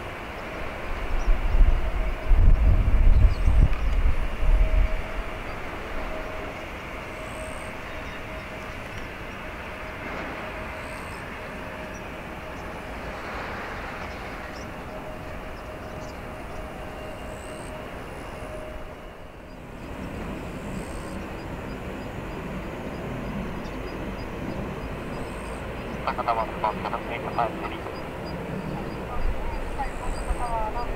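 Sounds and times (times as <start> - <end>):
airplane taxiing rushing noise: 0.0 - 30.9
faint steady whine: 0.0 - 30.9.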